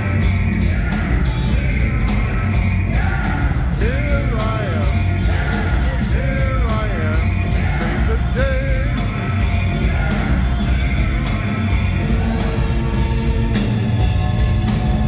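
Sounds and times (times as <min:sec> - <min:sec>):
drums: 0:00.0 - 0:15.0
heavy bass: 0:00.0 - 0:15.0
live rock band playing: 0:00.0 - 0:15.0
sliding lead melody: 0:00.0 - 0:15.0.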